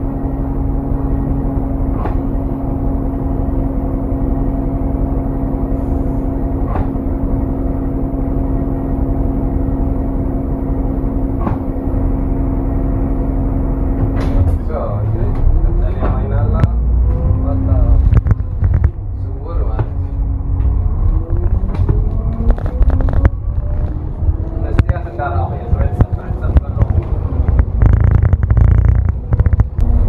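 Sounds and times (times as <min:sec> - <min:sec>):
bus engine idling hum: 0:00.0 - 0:30.0.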